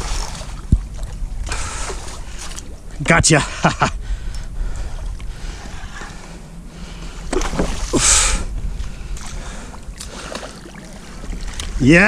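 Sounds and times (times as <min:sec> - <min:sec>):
water splashing: 0:00.0 - 0:12.0
wind on microphone: 0:00.0 - 0:12.0.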